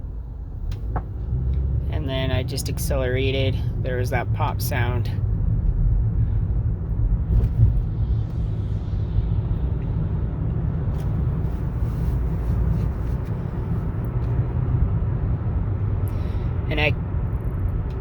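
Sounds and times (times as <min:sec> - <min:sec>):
road and engine noise in car cabin: 0:00.0 - 0:18.0.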